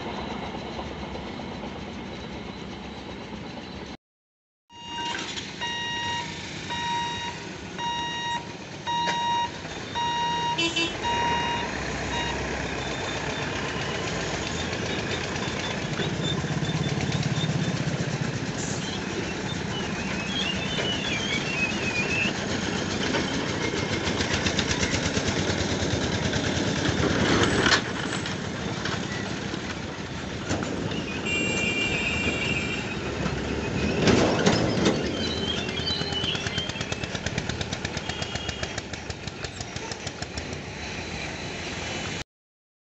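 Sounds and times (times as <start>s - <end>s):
vehicle engines running: 5.2s - 42.2s.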